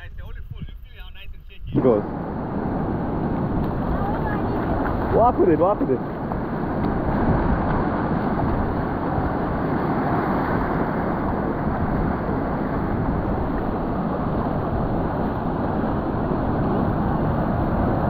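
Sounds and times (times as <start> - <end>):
wind buffeting microphone: 0.0 - 18.0
waves breaking on beach: 1.8 - 18.0.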